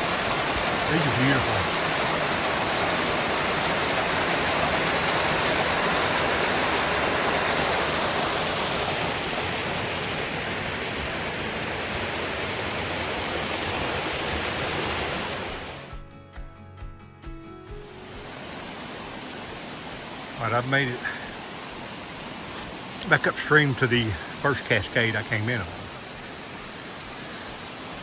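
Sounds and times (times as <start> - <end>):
water rushing over rocks: 0.0 - 15.9, 17.9 - 28.0.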